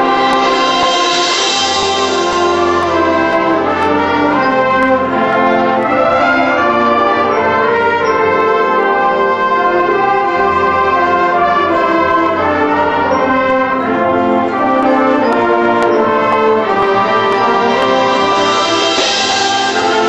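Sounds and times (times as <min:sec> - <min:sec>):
brass held chords: 0:00.0 - 0:20.0
concert band playing: 0:00.0 - 0:20.0.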